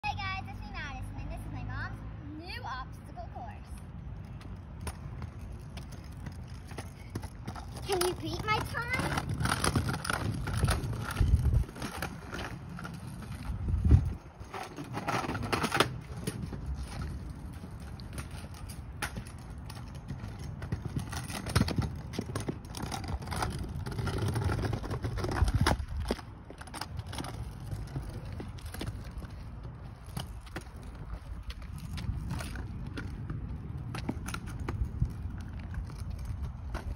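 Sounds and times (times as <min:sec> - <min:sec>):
scooter wheels rumbling on pavement: 0:00.0 - 0:36.9.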